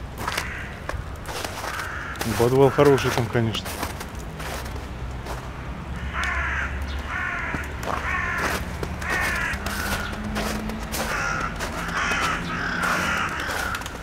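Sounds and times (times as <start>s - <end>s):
crows cawing: 0.2s - 4.5s, 5.9s - 14.0s.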